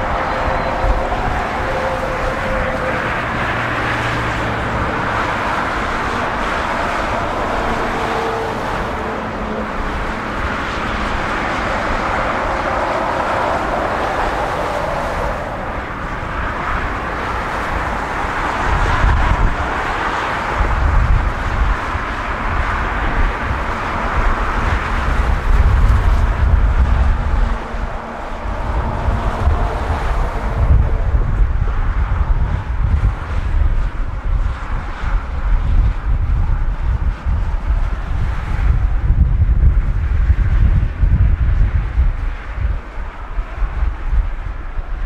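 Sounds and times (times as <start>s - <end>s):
jet engines rushing: 0.0s - 40.0s
wind buffeting microphone: 0.0s - 45.0s.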